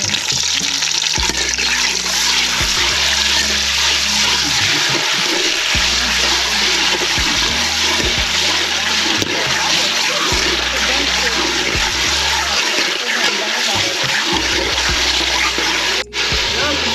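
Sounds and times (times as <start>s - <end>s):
metal spoon stirring in pot: 0.0s - 16.2s.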